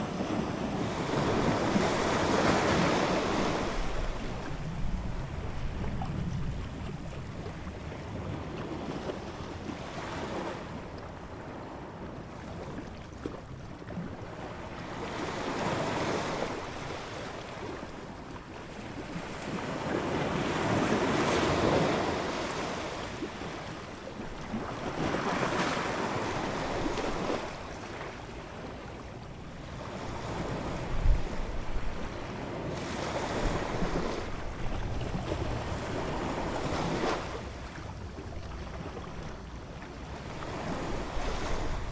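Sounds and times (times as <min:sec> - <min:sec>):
wind: 0:00.0 - 0:41.9.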